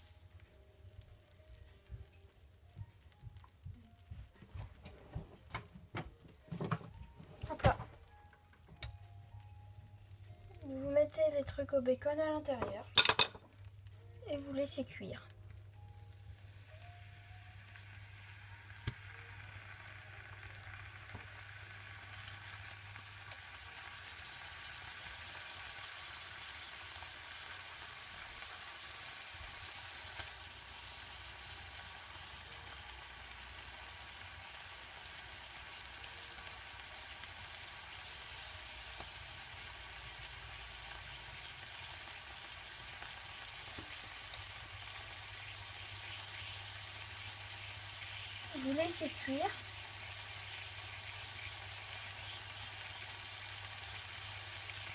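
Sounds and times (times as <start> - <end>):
food sizzling in a frying pan: 0.0 - 5.7, 6.4 - 54.9.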